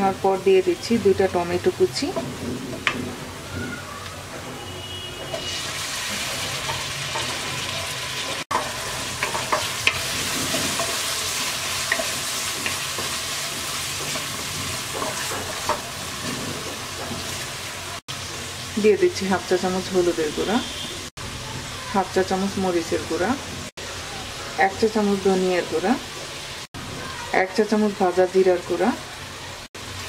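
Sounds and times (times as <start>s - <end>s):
onion and tomato sizzling in oil: 0.0s - 30.0s.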